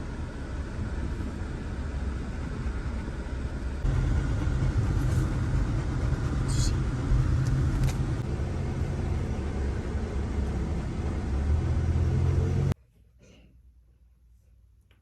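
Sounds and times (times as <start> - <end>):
car driving rumble: 0.0 - 12.8.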